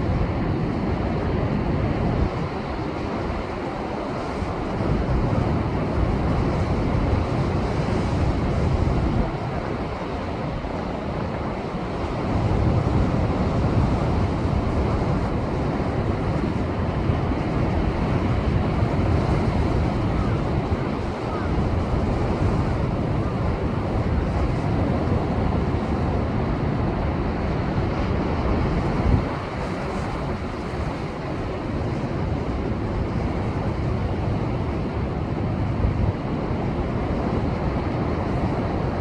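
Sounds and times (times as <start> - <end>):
wind buffeting microphone: 0.0 - 39.0
heavy surf crashing on rocks: 0.4 - 39.0.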